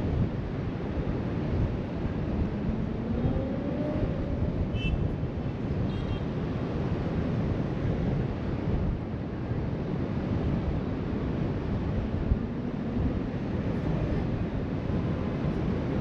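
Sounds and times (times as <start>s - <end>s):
wind buffeting microphone: 0.0s - 5.5s, 7.0s - 16.0s.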